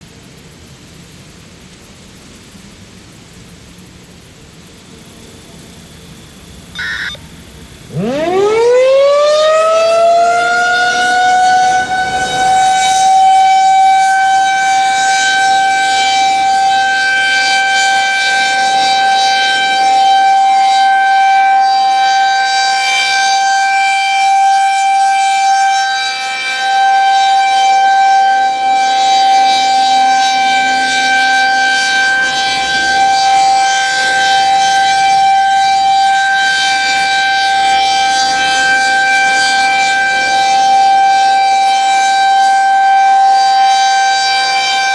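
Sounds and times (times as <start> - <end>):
warning siren wailing: 6.7 - 44.9.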